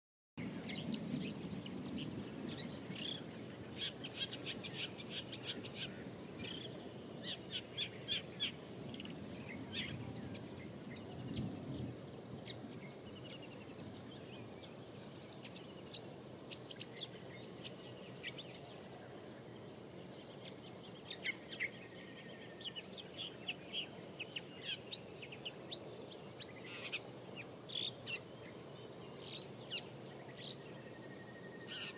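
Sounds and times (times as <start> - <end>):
bird chirping calls: 0.4 - 31.9
steady low background noise: 0.4 - 31.9.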